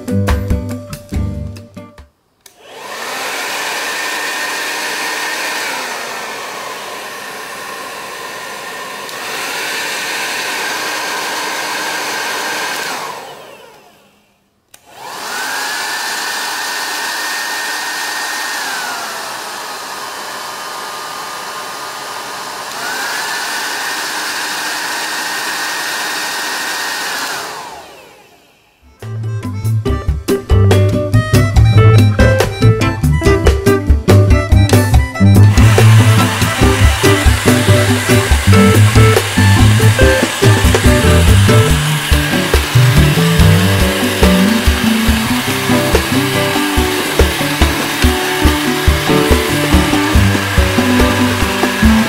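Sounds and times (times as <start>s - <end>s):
hair dryer running: 2.4s - 29.0s, 31.3s - 52.0s.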